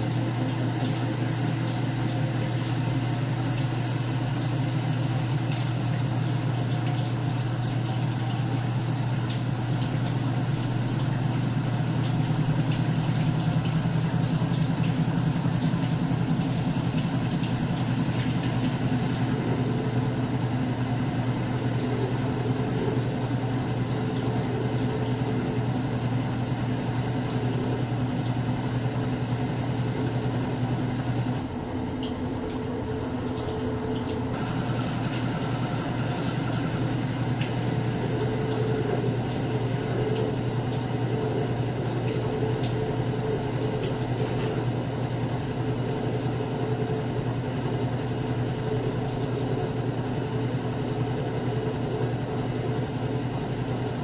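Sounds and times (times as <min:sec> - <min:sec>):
drain pump pumping water: 0:00.0 - 0:54.0
washing machine spinning hum: 0:00.0 - 0:54.0.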